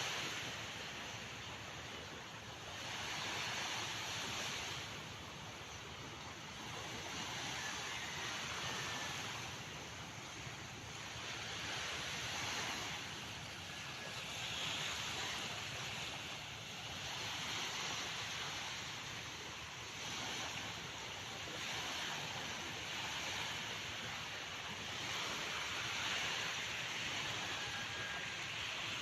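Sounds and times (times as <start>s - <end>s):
small waves hissing: 0.0s - 29.0s.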